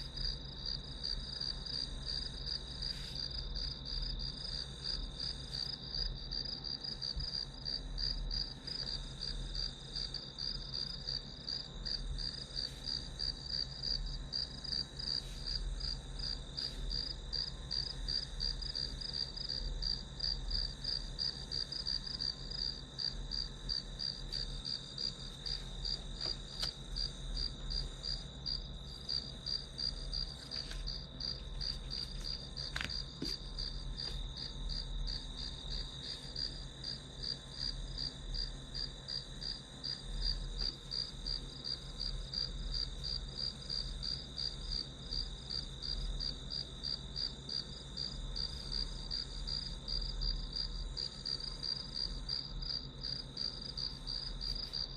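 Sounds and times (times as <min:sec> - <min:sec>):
crickets chirping: 0:00.0 - 0:54.9
faint low hum: 0:00.0 - 0:54.9.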